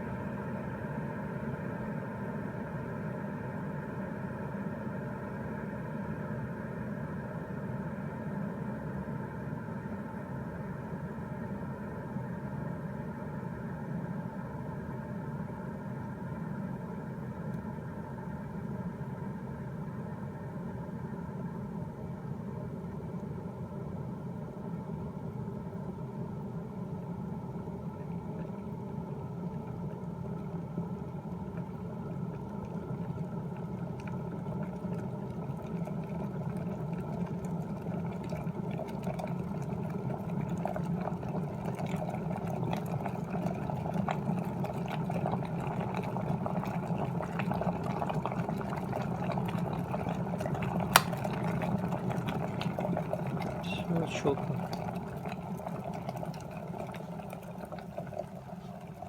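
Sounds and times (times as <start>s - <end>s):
electric kettle boiling water: 0.0s - 59.0s.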